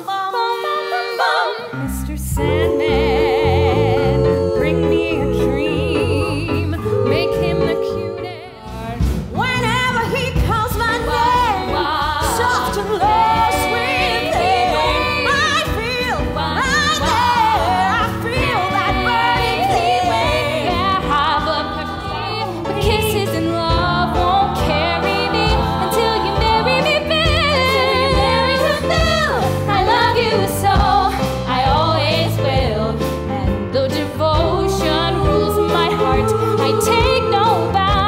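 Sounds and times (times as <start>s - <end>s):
women singing in close harmony: 0.0s - 9.0s, 10.0s - 38.0s
pop backing track: 0.0s - 38.0s.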